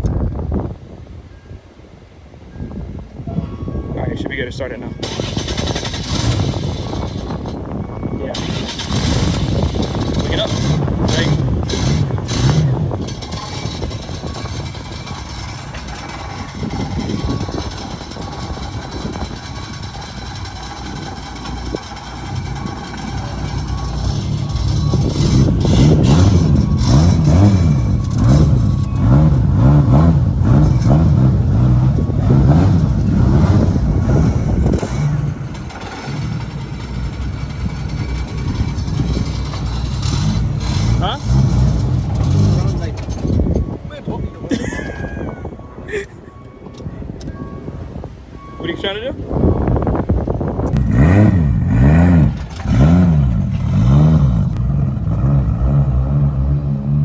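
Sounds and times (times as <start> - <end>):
car engine revving in blips: 4.6 - 45.6, 46.4 - 57.0.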